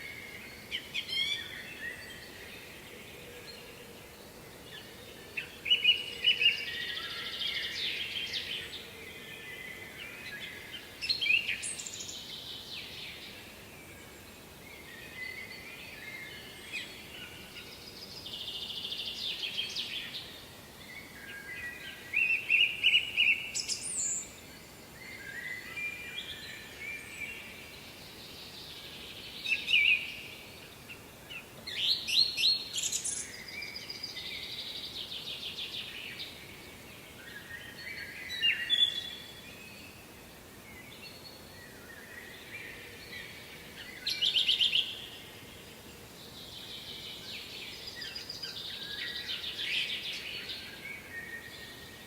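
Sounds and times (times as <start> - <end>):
songbirds singing: 0.0 - 52.0.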